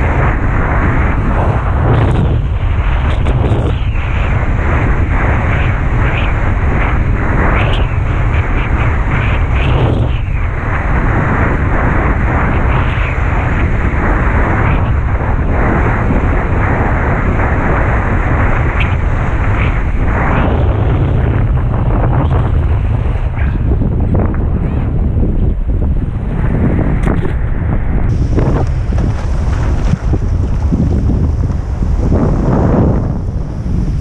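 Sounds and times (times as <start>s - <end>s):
wind blasting across microphone: 0.0s - 34.0s.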